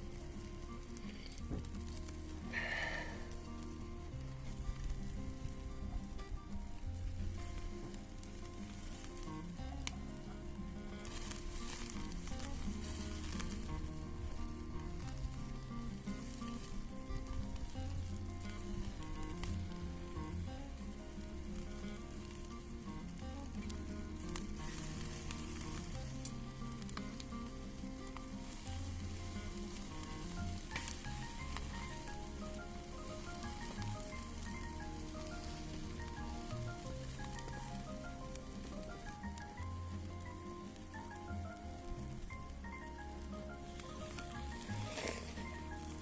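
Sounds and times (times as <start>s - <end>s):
food sizzling over a fire: 0.0s - 46.0s
quiet background music: 0.0s - 46.0s.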